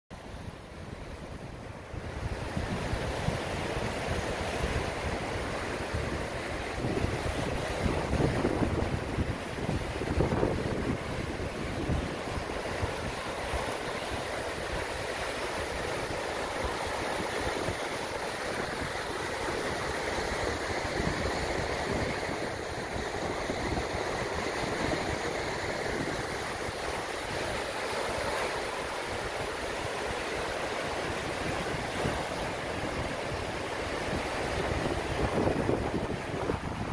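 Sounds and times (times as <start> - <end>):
surf breaking on sandy shore: 0.2 - 36.9
wind buffeting microphone: 1.0 - 36.9.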